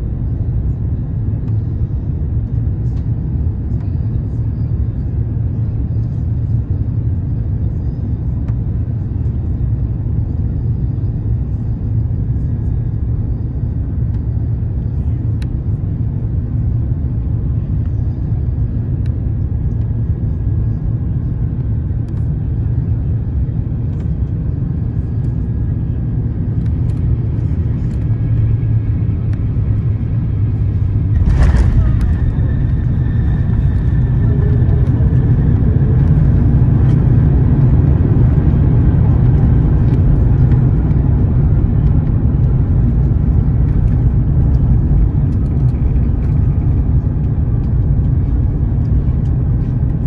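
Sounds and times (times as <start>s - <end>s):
jet engines rumbling in cabin: 0.0s - 50.0s.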